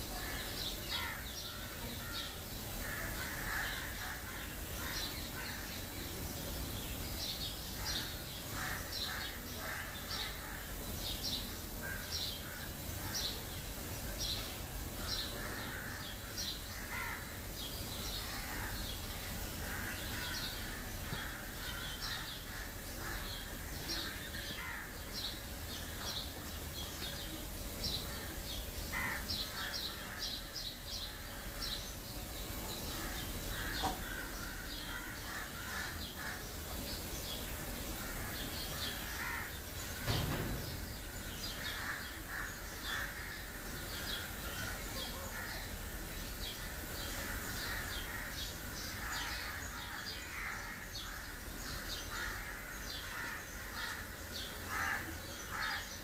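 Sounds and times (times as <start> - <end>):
birds chirping: 0.0 - 56.0
harsh bird calls: 0.0 - 56.0.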